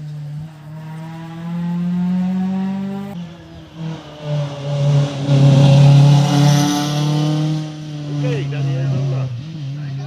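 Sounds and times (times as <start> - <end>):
rally car approaching: 0.0 - 10.0
rally car engine accelerating: 0.0 - 10.0.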